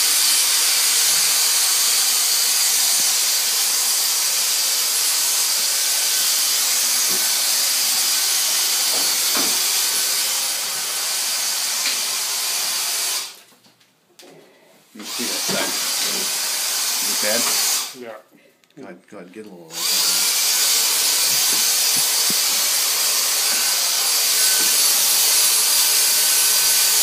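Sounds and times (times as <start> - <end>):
handheld vacuum hissing and whining: 0.0 - 13.4, 15.0 - 18.0, 19.7 - 27.0.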